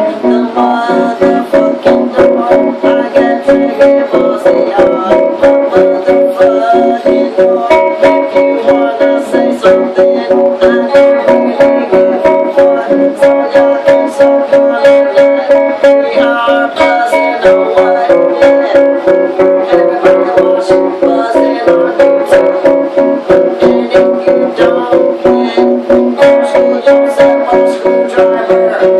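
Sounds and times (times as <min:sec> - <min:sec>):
guitar strumming: 0:00.0 - 0:28.9.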